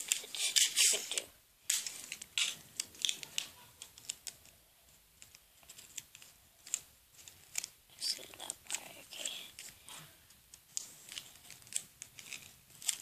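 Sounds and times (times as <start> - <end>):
plastic straw clicking and rustling: 0.0 - 13.0.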